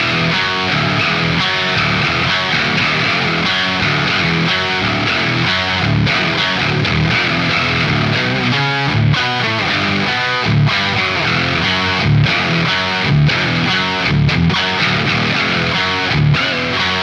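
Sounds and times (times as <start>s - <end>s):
distorted electric guitar riffs: 0.0s - 17.0s.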